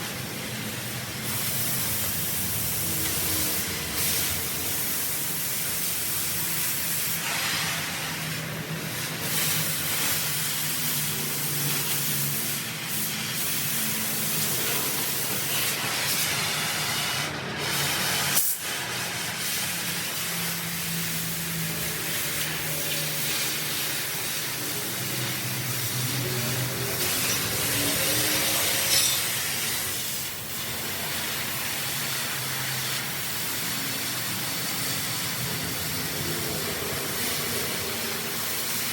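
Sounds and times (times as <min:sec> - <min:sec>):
cutting torch hissing: 0:00.0 - 0:38.9.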